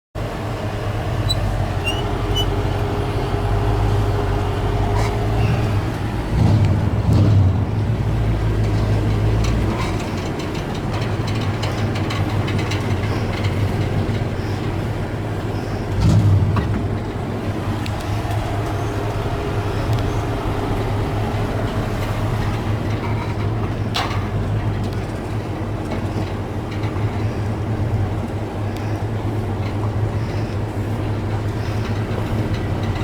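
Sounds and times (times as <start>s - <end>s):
vehicle engine rumbling: 0.2s - 33.0s.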